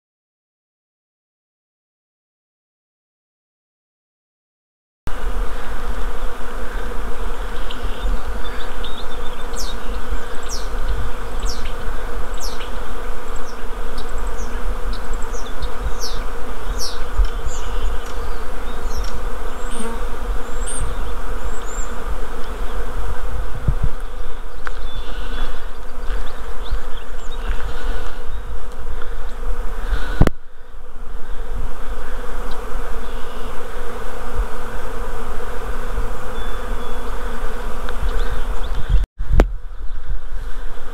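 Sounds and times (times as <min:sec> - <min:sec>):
bees buzzing: 0:05.1 - 0:40.9.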